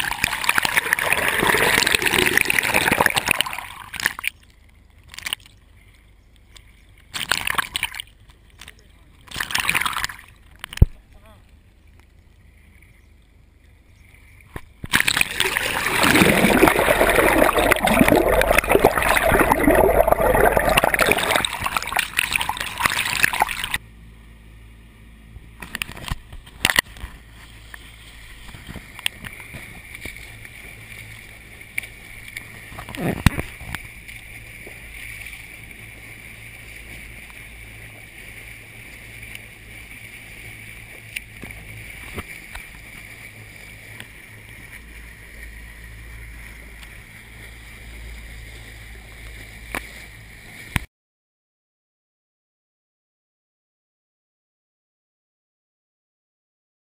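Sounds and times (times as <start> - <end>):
water splashing and rushing: 0.0 - 5.6, 6.6 - 12.4, 14.2 - 23.9, 25.3 - 50.9
muffled water wash and boat hum: 0.0 - 50.9.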